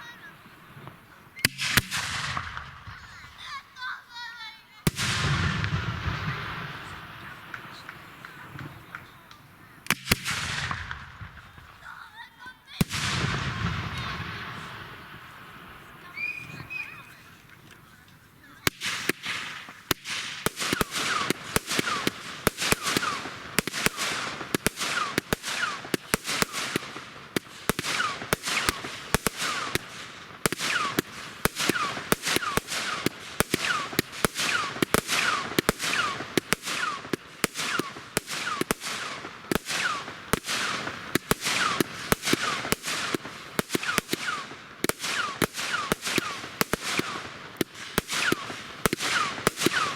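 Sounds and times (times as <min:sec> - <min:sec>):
fireworks shots with whistles: 0:00.0 - 0:49.9.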